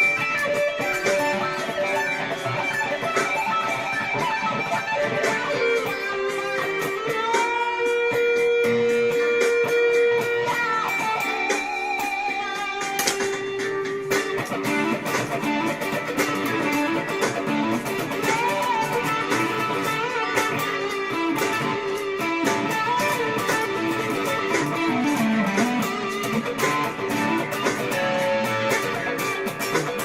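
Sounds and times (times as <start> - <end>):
distorted electric guitar lead: 0.0 - 30.0.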